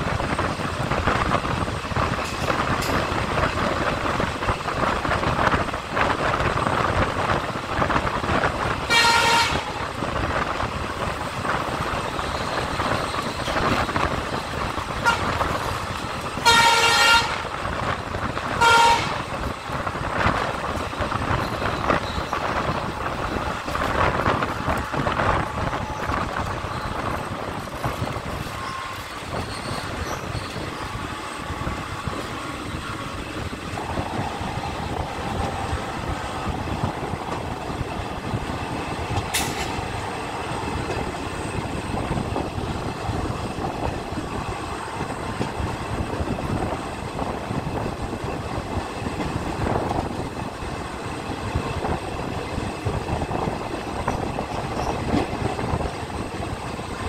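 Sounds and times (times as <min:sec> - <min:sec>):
train wheels rumbling on rails: 0:00.0 - 0:57.0
wind rush: 0:00.0 - 0:57.0.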